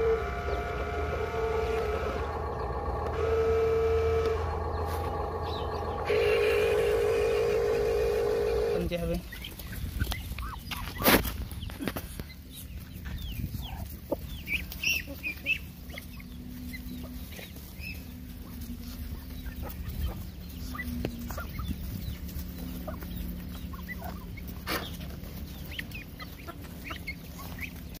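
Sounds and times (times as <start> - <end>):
chickens clucking: 0.0 - 28.0
chicks peeping: 0.0 - 28.0.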